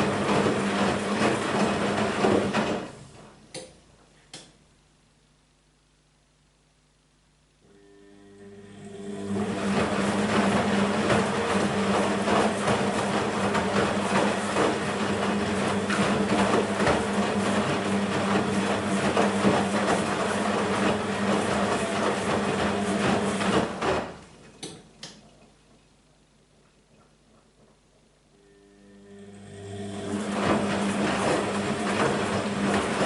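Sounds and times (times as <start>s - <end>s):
washing machine spinning: 0.0s - 3.4s, 7.8s - 25.7s, 26.8s - 33.0s.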